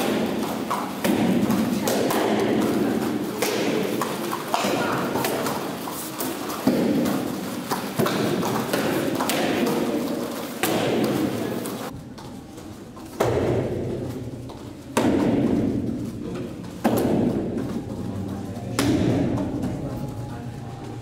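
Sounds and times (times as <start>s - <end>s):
heavy thuds echoing in hall: 0.0s - 21.0s.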